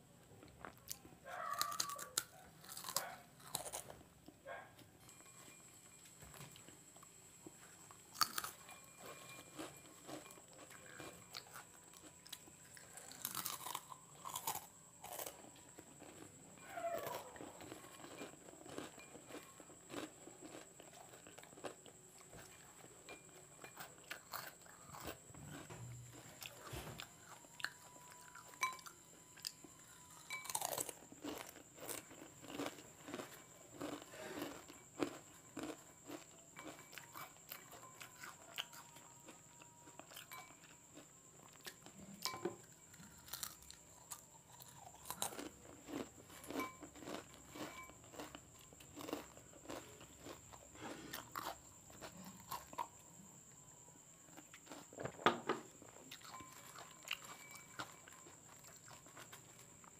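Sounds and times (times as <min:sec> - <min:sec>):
crunching and chewing chips: 0:00.2 - 0:59.9.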